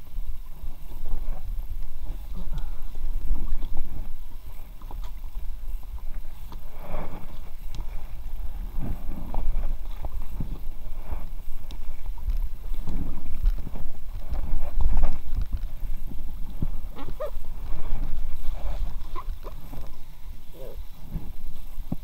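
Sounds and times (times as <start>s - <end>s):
low rumble on microphone: 0.0s - 22.0s
paddle splashes: 0.0s - 22.0s.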